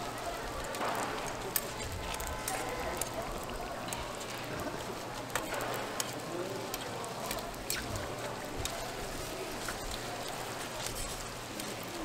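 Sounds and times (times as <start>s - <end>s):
crackles and pops: 0.0s - 12.0s
oil sizzling on a griddle: 0.0s - 12.0s.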